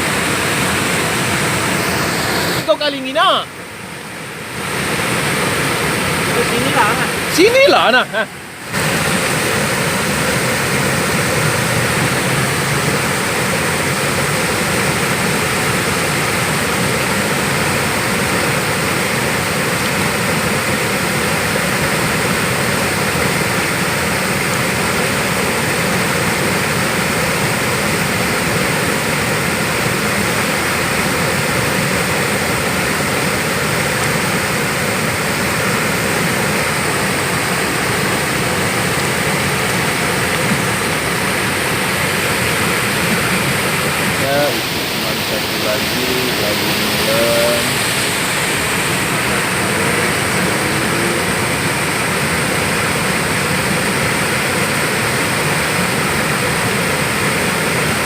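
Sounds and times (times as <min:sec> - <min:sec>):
fast-flowing river water: 0:00.0 - 0:58.0
waterfall roar: 0:00.0 - 0:58.0.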